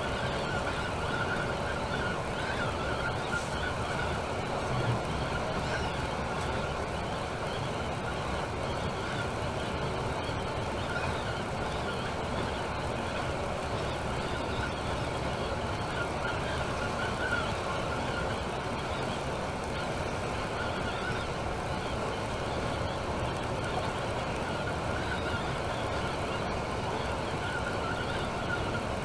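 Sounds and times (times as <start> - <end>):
coach engine and tyre noise: 0.0 - 29.0.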